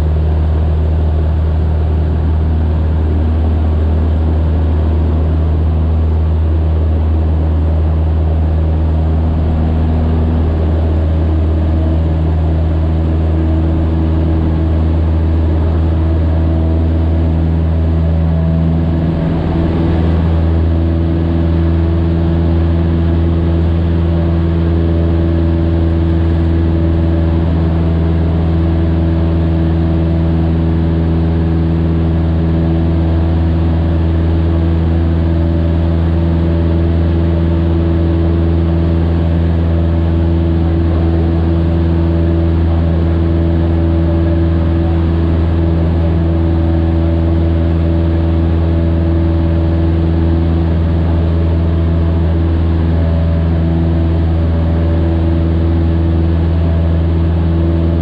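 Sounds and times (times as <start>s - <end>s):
airplane engine and propeller drone: 0.0s - 58.0s.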